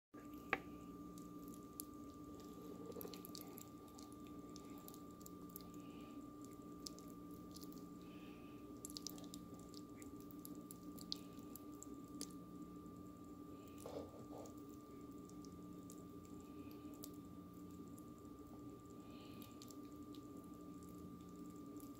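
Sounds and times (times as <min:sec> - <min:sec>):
steady low hum: 0:00.2 - 0:21.9.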